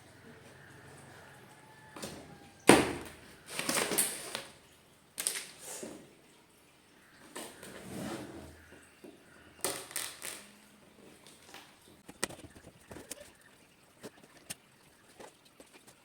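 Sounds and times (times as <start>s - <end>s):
rustling of handled objects: 0.4s - 6.0s, 7.2s - 16.0s.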